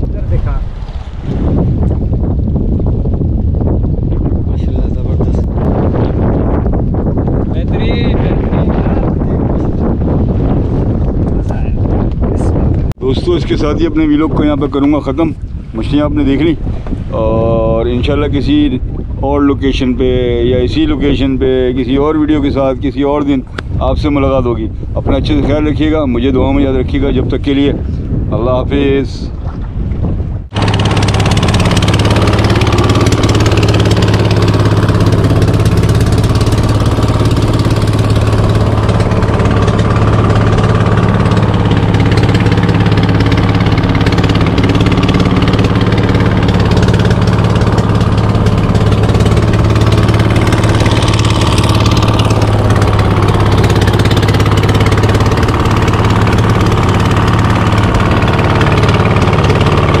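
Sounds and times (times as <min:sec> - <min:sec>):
boat diesel engine running: 0:00.0 - 0:29.0, 0:30.2 - 1:00.0.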